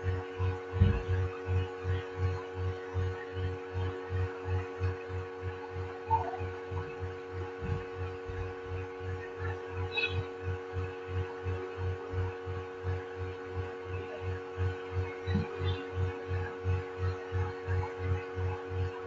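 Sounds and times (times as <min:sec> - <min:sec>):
throbbing machine hum: 0:00.0 - 0:19.0.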